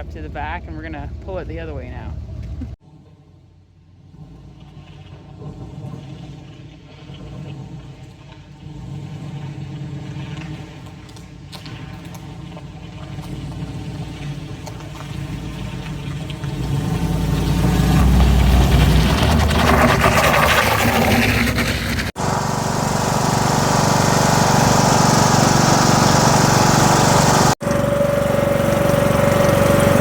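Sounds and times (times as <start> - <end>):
vehicle engine throttling up: 0.0 - 30.0.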